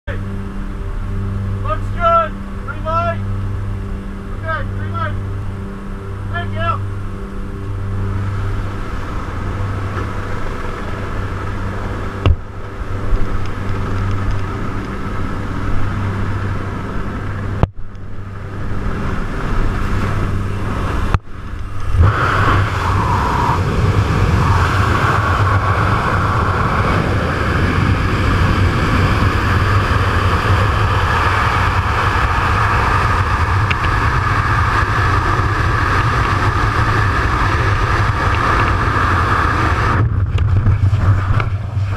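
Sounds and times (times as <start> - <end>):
plane engines droning: 0.0 - 41.9
wind rushing: 0.7 - 41.9.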